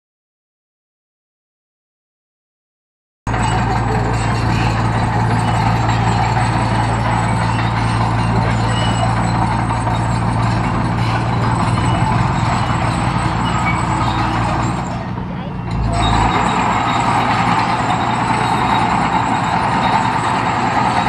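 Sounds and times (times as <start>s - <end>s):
bulldozer diesel engine running: 3.3s - 21.0s.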